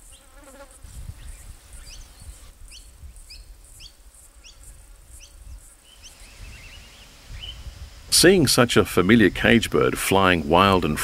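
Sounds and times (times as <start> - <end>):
insects pulsing buzz: 0.0 - 11.0.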